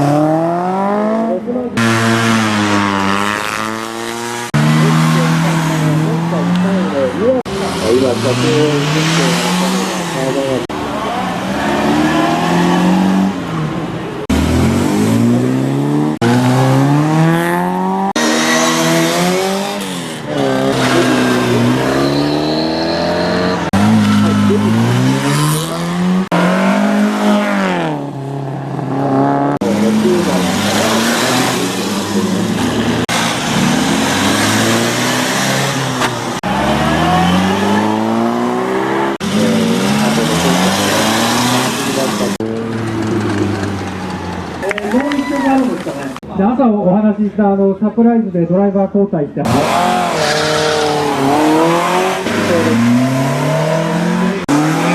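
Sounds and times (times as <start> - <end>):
car engines revving: 0.0 - 46.6, 49.4 - 54.9.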